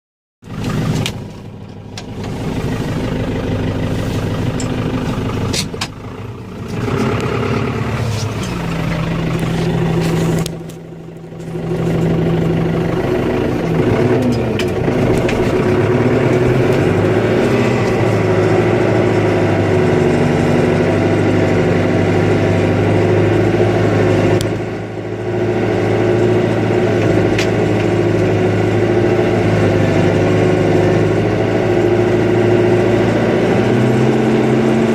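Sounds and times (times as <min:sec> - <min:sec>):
vehicle engine revving: 0:00.4 - 0:34.9.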